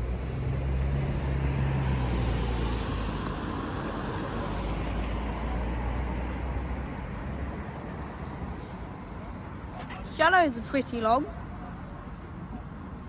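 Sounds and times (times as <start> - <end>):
vehicle passing rush: 0.0 - 13.0.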